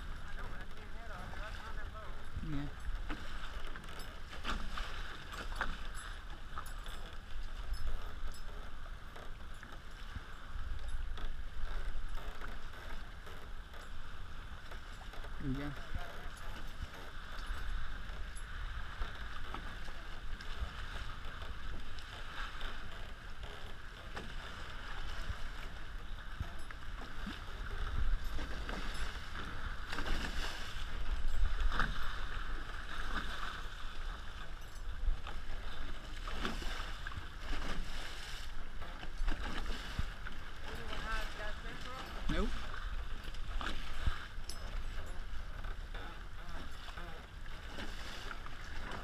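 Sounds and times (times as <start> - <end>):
water splashing along hulls: 0.0 - 49.0.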